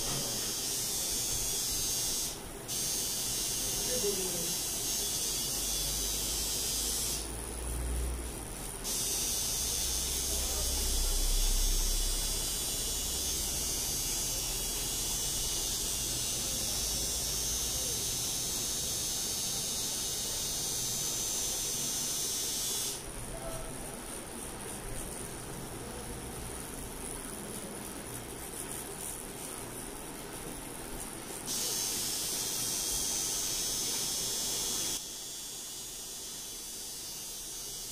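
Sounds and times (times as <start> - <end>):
tattoo machine buzzing: 0.0 - 27.4, 31.4 - 37.9.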